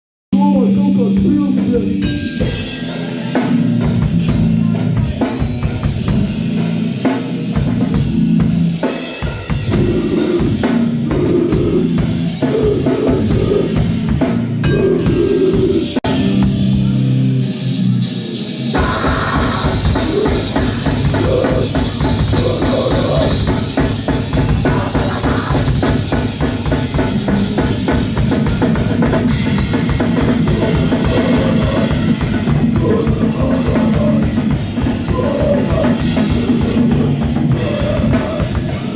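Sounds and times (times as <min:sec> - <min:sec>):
drum kit: 0:00.3 - 0:38.9
rock band playing: 0:00.3 - 0:38.9.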